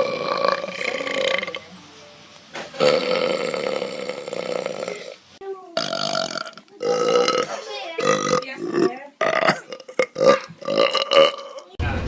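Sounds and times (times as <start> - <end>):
person belching loudly: 0.0 - 1.7, 2.8 - 5.2, 5.8 - 11.8.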